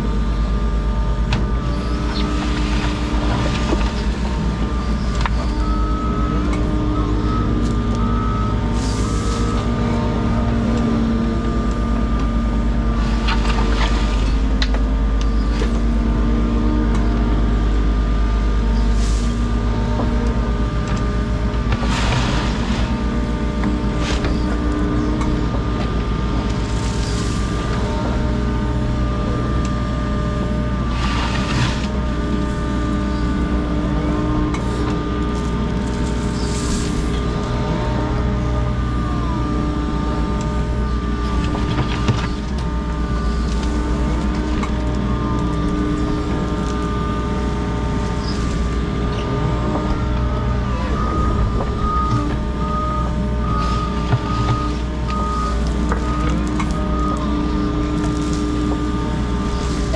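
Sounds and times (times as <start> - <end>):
diesel engine running: 0.0 - 59.9
whining tones: 0.0 - 59.9.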